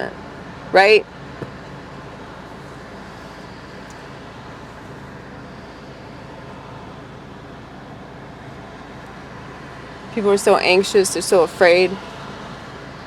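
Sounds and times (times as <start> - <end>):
steady background rumble: 0.0 - 13.0.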